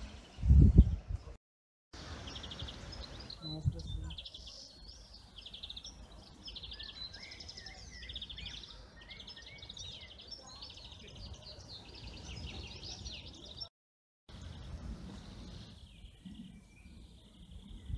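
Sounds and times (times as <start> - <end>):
songbirds singing: 2.0 - 13.7, 14.3 - 17.9.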